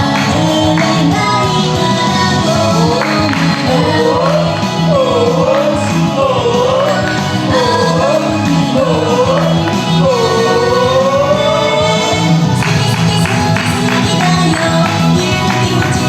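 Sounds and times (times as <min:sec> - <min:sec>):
pop song over loudspeakers: 0:00.0 - 0:16.0
woman singing: 0:00.0 - 0:16.0.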